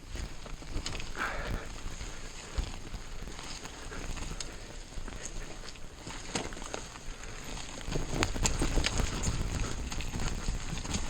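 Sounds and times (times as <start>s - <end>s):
bike clicks and rattles: 0.0s - 11.0s
bike tyres on gravel: 0.0s - 11.0s.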